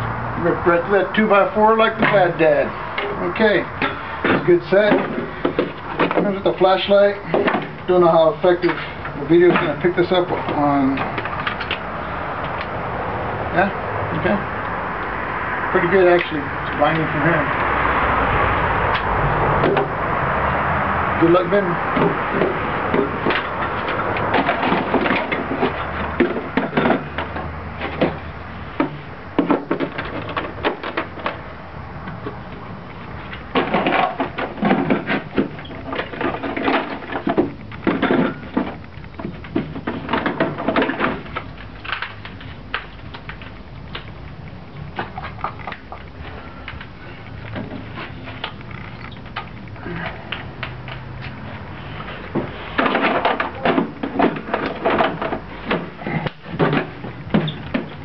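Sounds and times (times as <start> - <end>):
clattering of objects being handled: 0.6 - 12.8, 18.9 - 20.0, 21.1 - 58.0.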